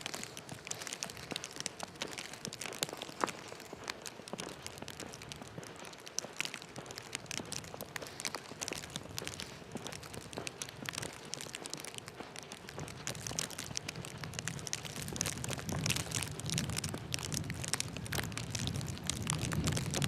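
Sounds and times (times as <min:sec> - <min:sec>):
crackling and ticking: 0:00.0 - 0:20.0.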